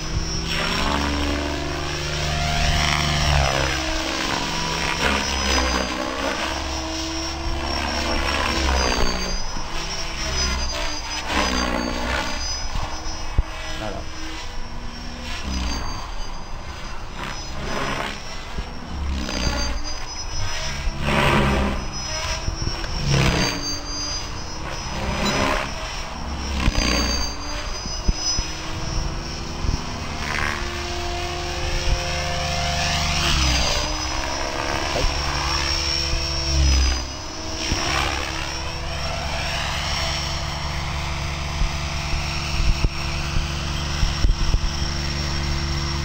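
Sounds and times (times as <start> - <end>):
helicopter motor whine: 0.0 - 46.0
rotor blade whooshes: 0.0 - 46.0.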